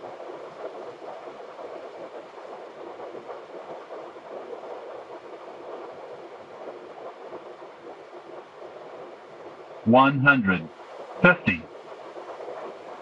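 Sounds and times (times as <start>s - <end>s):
airflow and jet engines in cockpit: 0.1s - 13.0s.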